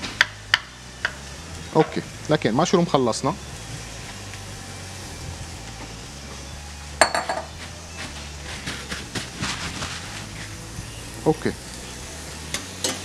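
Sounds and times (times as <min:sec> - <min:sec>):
faint frying sizzle: 0:00.0 - 0:13.0
mushrooms stirred in pot: 0:00.0 - 0:13.0.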